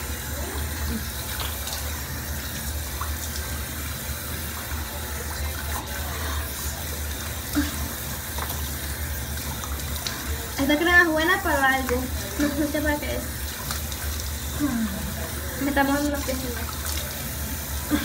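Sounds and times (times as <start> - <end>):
water running from tap: 0.0 - 18.0.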